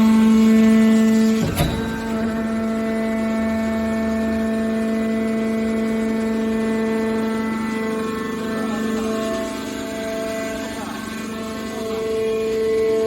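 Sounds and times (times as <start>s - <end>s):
hydraulic power unit humming: 1.0s - 12.9s.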